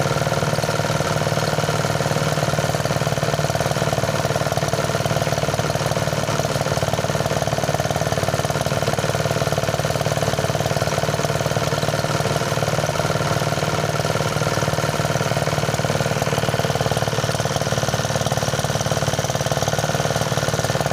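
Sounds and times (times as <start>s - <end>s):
rice thresher running: 0.0s - 20.9s.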